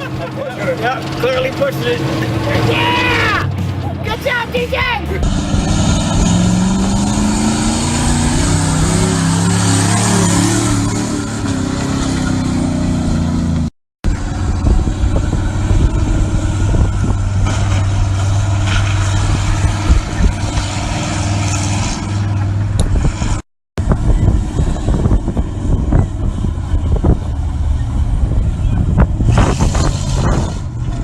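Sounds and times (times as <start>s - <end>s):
monster truck engine running: 0.0s - 31.0s.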